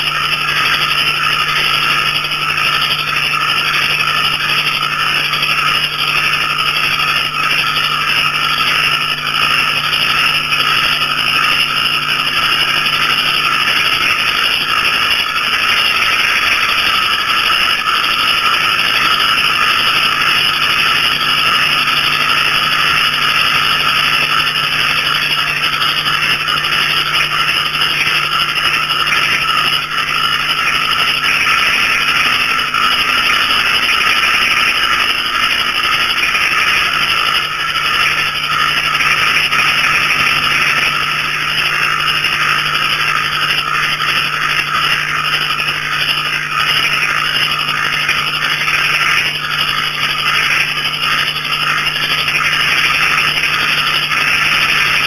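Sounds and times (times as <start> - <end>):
frogs calling: 0.0 - 55.0.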